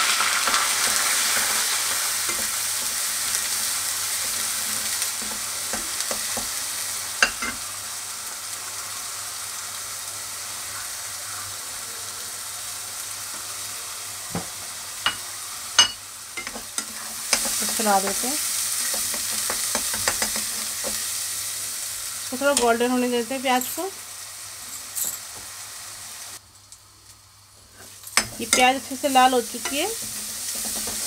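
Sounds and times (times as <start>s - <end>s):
onion paste sizzling in oil: 0.0s - 31.0s.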